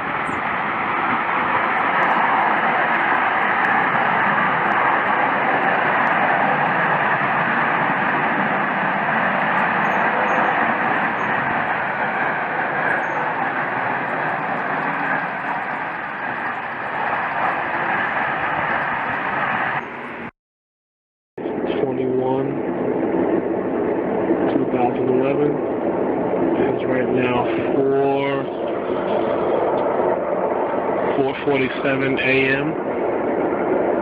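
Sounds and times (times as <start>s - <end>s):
jet-like rushing roar from sky: 0.0s - 20.3s, 21.4s - 34.0s.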